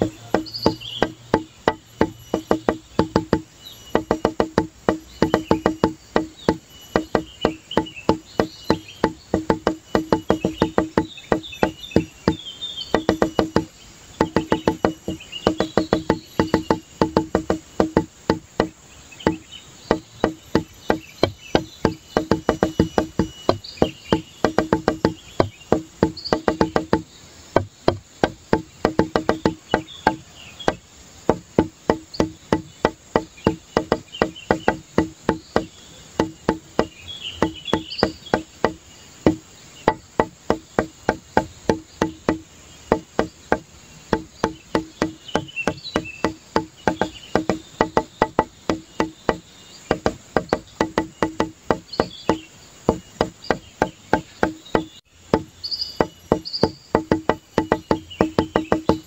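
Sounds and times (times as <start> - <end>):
high chirping sounds: 0.0 - 59.0
wood-block-like knocking beat: 0.0 - 59.0.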